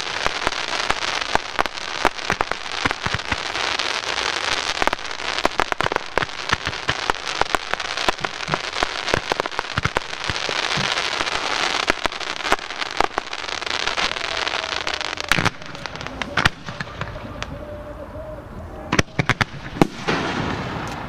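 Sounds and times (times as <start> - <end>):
fireworks crackling: 0.0 - 21.0
loud firework reports: 0.0 - 21.0.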